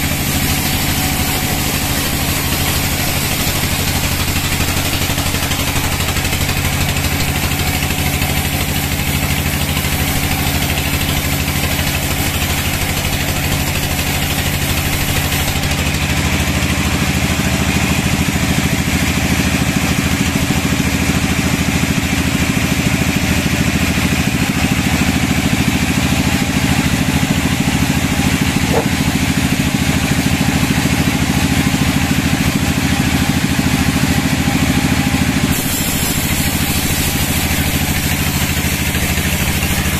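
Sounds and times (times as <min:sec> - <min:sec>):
sawmill machinery engine drone: 0:00.0 - 0:39.9.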